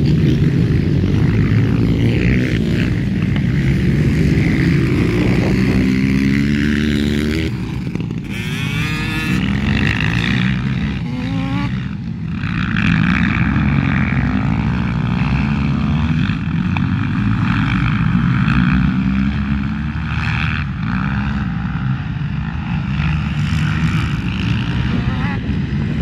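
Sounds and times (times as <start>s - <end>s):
racing quad engines: 0.0s - 26.0s.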